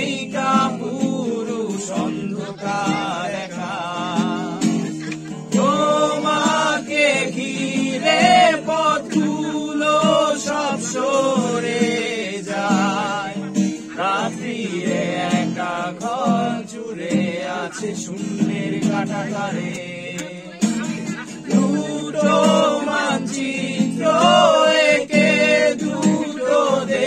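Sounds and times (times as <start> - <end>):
acoustic guitar: 0.0 - 27.0
man singing with vibrato: 0.0 - 27.0.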